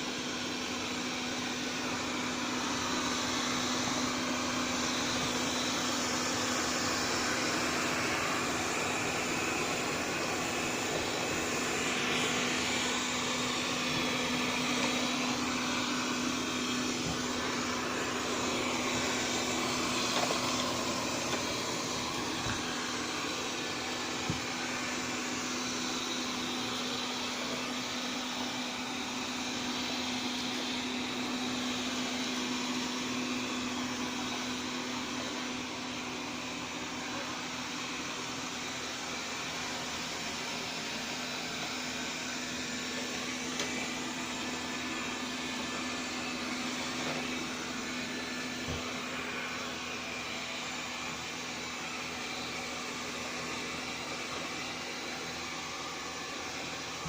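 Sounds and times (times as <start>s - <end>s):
robot vacuum motor humming: 0.0s - 57.0s.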